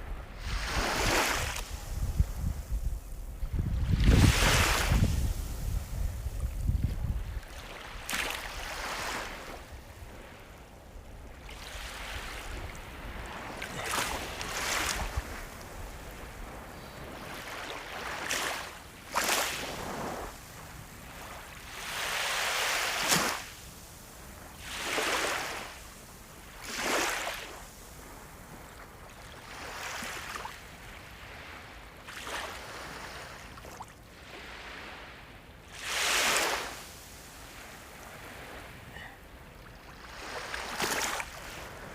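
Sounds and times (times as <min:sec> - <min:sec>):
small sea waves washing in: 0:00.0 - 0:41.9.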